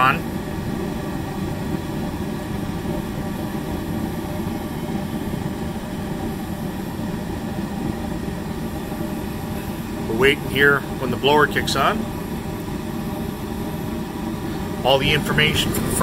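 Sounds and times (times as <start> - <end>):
gas furnace rumbling hum: 0.0 - 16.0.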